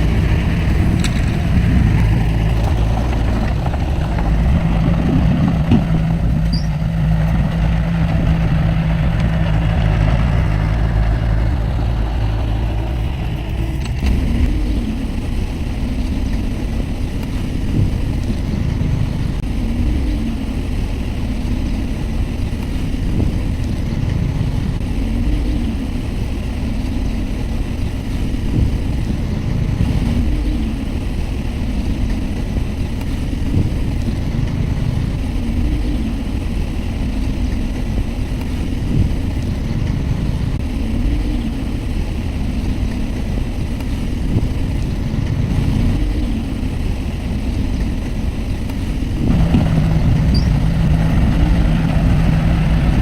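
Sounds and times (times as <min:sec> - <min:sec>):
diesel engine rumbling: 0:00.0 - 0:53.0
steady hum: 0:00.0 - 0:53.0.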